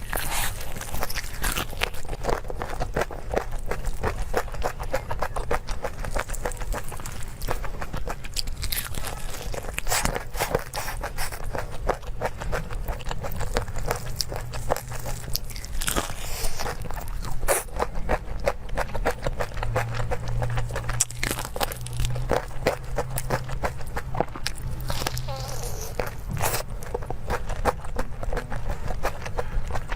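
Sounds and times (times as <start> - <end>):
chewing crunchy food: 0.0 - 29.9.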